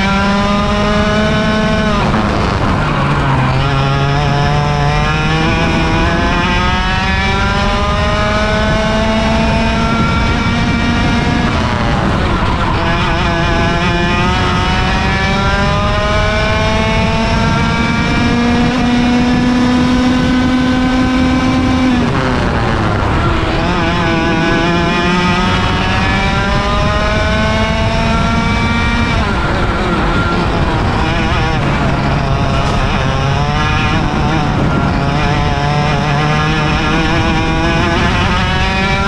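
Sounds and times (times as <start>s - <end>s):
kart engine at full throttle: 0.0s - 39.0s.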